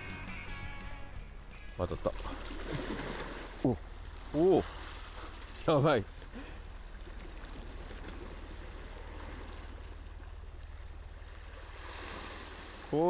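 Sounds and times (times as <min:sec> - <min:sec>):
low steady rumble: 0:00.0 - 0:12.9
sea water washing against rocks: 0:02.0 - 0:13.0.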